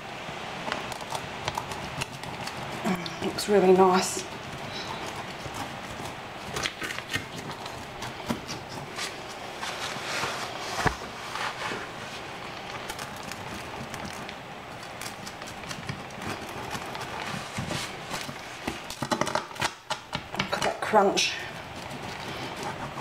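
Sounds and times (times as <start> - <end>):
pizza cutter crunching crust: 0.6 - 23.0.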